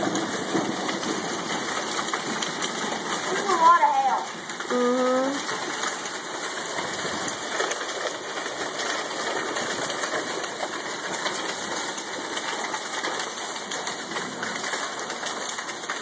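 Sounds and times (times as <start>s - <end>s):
hail clattering on ground: 0.0s - 16.0s.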